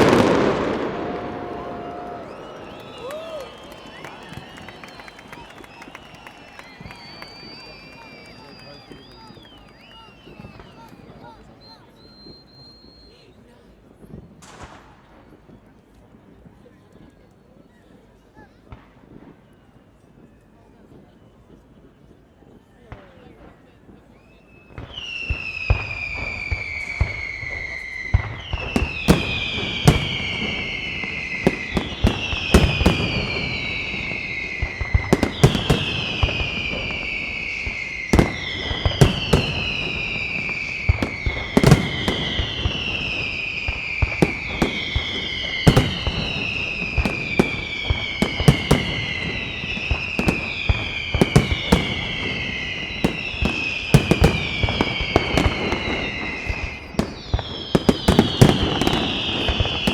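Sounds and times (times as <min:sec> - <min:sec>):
fireworks whistles falling in pitch: 0:00.0 - 0:13.5, 0:24.1 - 0:59.9
fireworks bangs and crackle: 0:00.0 - 0:17.2, 0:18.5 - 0:59.9.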